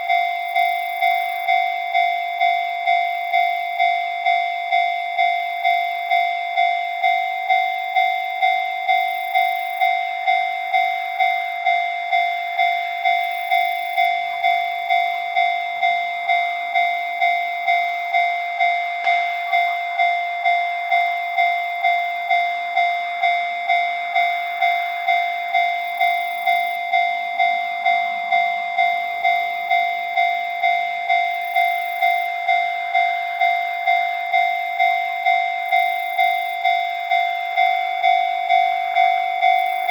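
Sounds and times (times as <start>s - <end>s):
level crossing alarm bell: 0.0s - 39.9s.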